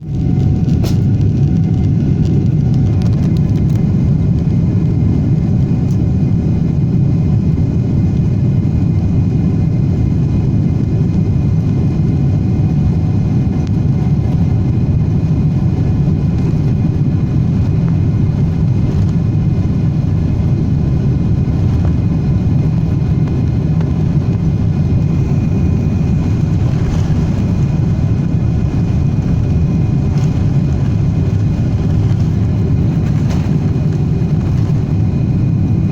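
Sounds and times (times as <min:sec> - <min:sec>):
jet engines rumbling with whine: 0:00.0 - 0:35.9.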